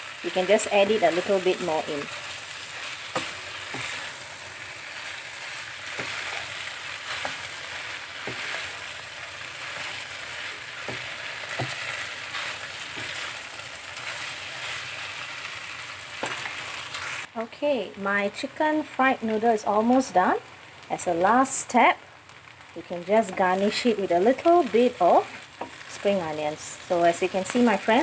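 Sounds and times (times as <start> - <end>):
noodles sizzling in a hot pan: 0.0 - 17.4, 18.0 - 28.0.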